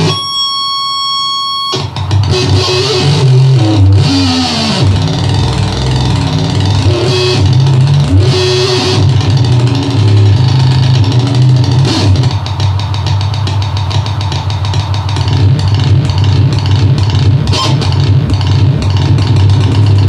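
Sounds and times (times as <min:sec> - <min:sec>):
low distorted synthesizer drone: 0:00.0 - 0:20.0
stuttering electronic flutter: 0:01.7 - 0:14.5, 0:15.2 - 0:20.0.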